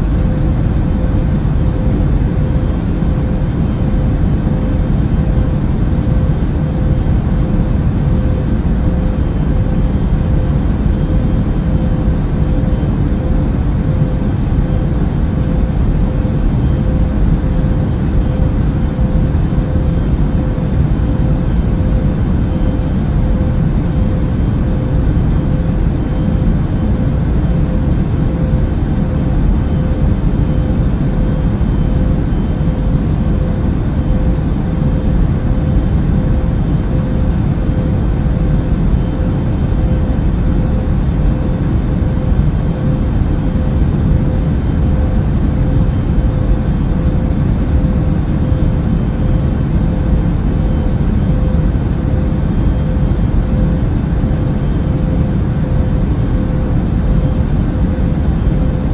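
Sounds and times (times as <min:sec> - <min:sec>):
airplane engine rumble: 0:00.0 - 0:58.9
faint steady hum: 0:00.0 - 0:58.9.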